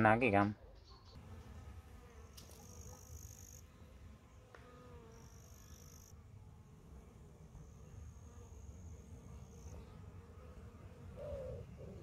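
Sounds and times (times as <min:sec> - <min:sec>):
honeybees buzzing: 0:01.2 - 0:12.0.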